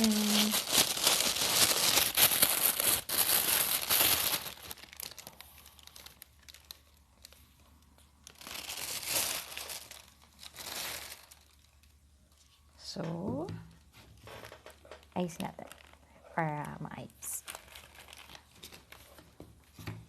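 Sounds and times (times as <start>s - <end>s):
packaging crinkling by hand: 0.0s - 12.7s, 13.8s - 20.0s.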